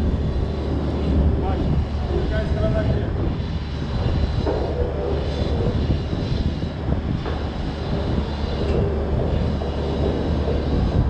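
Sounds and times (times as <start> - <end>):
steady engine drone: 0.0 - 11.0
wind rumbling on microphone: 0.0 - 11.0.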